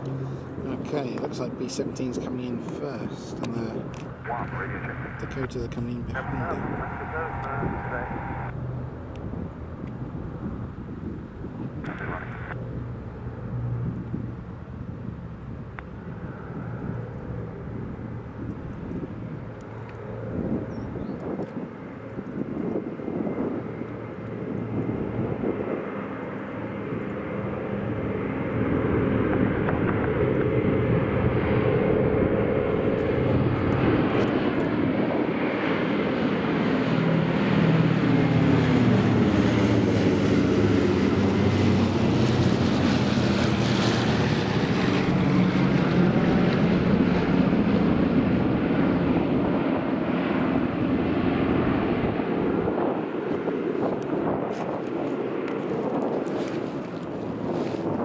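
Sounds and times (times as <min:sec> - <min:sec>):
propeller aircraft engines droning: 0:00.0 - 0:58.0.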